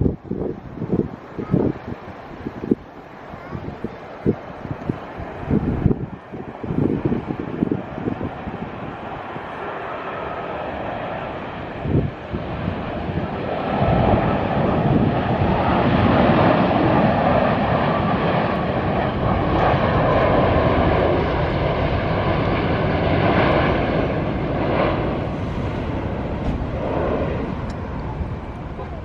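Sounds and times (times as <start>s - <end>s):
jet airliner engines landing: 0.0s - 29.0s.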